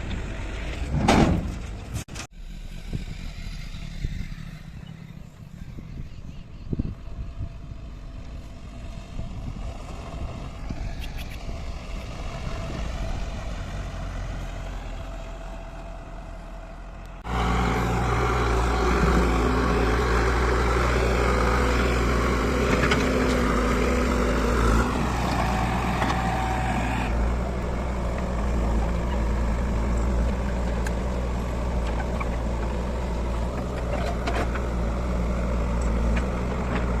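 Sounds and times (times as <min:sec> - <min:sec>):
diesel engine running: 0:01.6 - 0:37.0.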